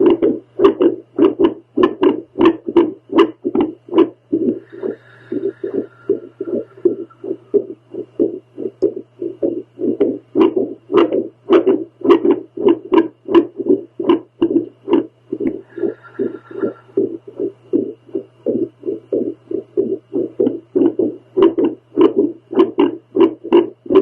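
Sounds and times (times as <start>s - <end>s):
heartbeat whooshing pulses: 0.0s - 24.0s
steady low hum: 0.0s - 24.0s.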